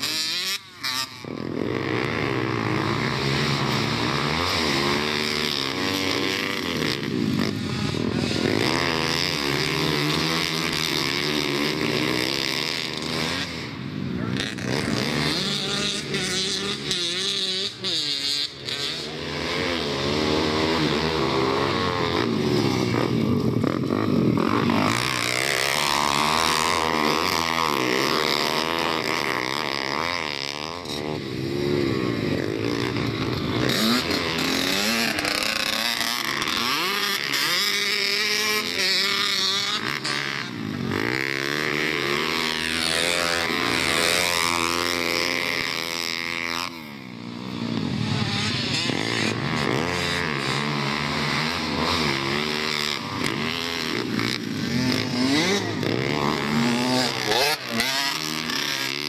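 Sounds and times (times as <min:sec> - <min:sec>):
pit bike engines revving: 0:00.0 - 0:59.0.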